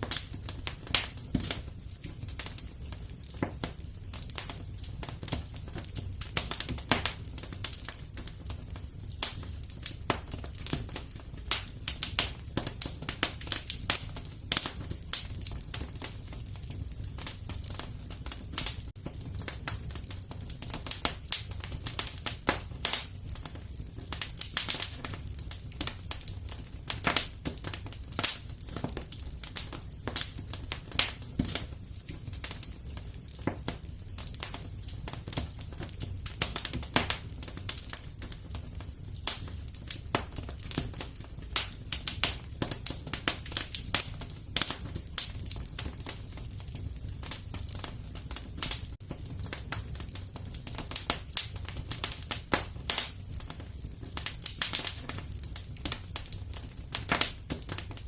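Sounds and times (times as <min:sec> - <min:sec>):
fire crackling and popping: 0:00.0 - 0:58.0
low rumble of fire: 0:00.0 - 0:58.0.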